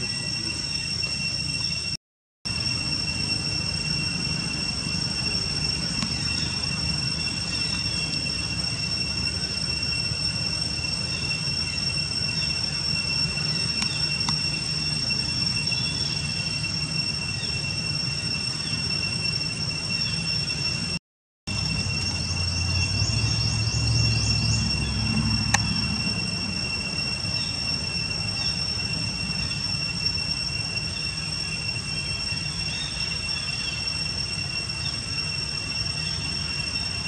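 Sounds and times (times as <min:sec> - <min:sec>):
constant high-pitched whine: 0:00.0 - 0:37.0.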